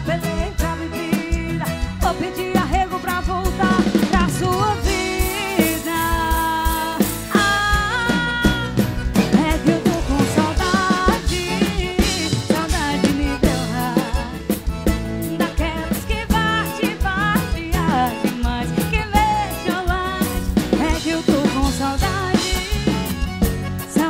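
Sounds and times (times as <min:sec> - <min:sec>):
drum kit beat: 0:00.0 - 0:24.0
live band playing: 0:00.0 - 0:24.0
melodic lead line: 0:00.0 - 0:24.0.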